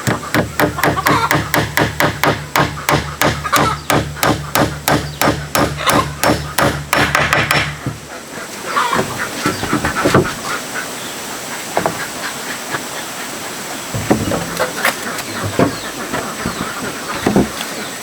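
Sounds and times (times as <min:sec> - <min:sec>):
steady hiss: 0:00.0 - 0:18.0
poultry calling: 0:00.2 - 0:01.6, 0:02.8 - 0:06.6, 0:08.1 - 0:18.0.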